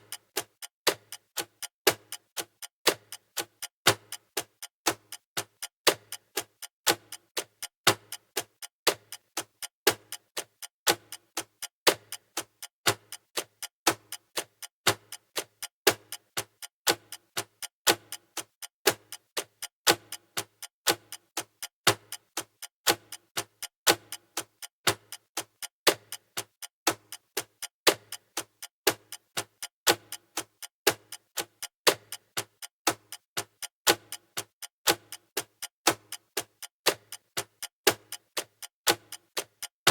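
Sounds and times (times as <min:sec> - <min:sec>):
timer ticking: 0:00.0 - 0:39.9.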